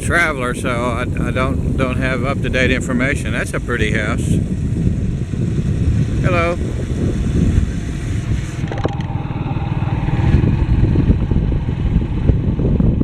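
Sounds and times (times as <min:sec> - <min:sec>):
wind rumble on microphone: 0:00.0 - 0:13.0
motorcycle engine running: 0:01.1 - 0:13.0.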